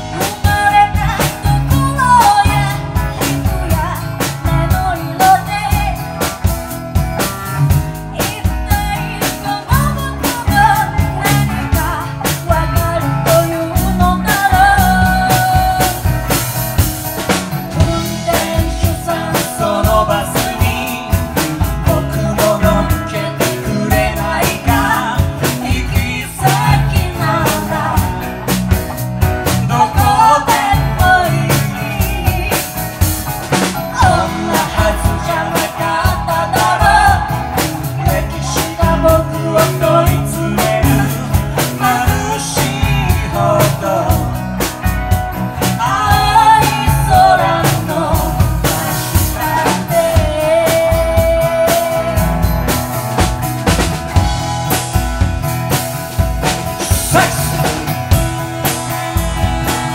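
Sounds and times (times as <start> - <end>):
woman singing lead: 0.0 - 54.3, 56.8 - 59.9
acoustic and electric guitars: 0.0 - 59.9
drum kit beat: 0.0 - 59.9
electric bass: 0.0 - 59.9.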